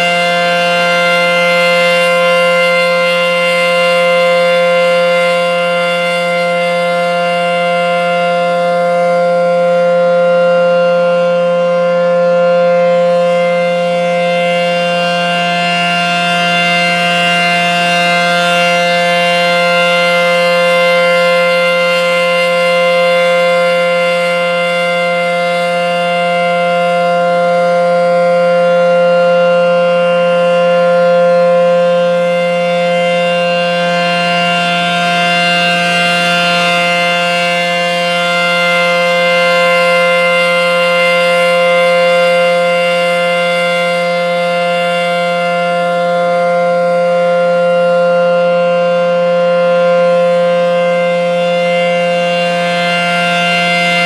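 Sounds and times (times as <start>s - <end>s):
outdoor warning siren: 0.0s - 54.0s.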